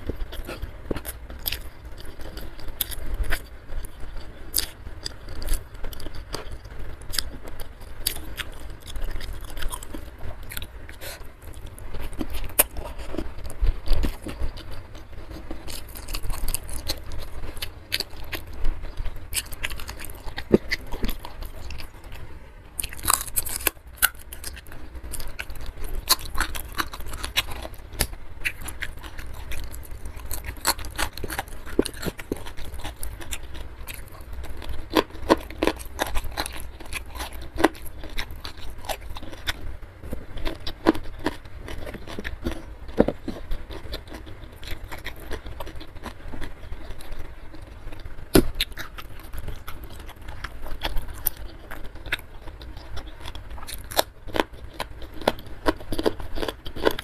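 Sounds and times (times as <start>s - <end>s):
person chewing and crunching food: 0.0s - 57.0s.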